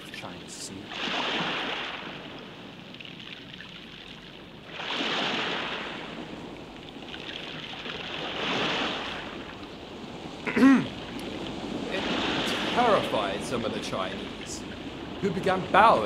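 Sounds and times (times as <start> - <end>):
sea waves surging and washing: 0.0 - 16.0.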